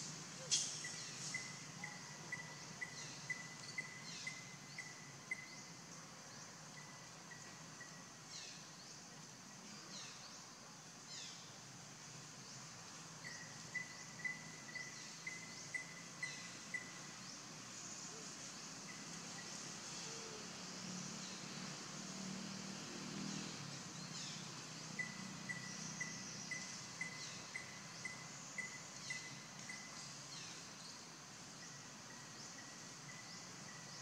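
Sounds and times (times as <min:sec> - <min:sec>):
high insect hiss: 0:00.0 - 0:34.0.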